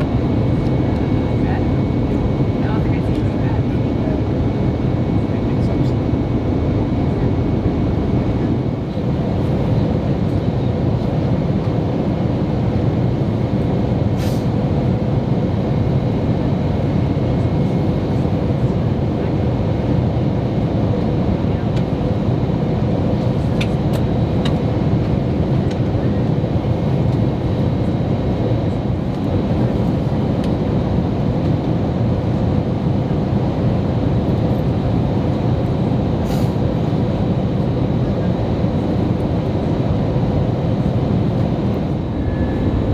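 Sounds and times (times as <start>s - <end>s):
aircraft cabin engine rumble: 0.0s - 42.9s.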